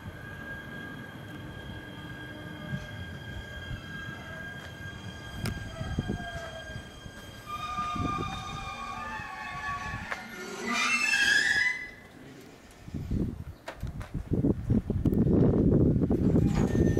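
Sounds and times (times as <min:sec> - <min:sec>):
electric train whine: 0:00.0 - 0:13.5, 0:14.6 - 0:16.9.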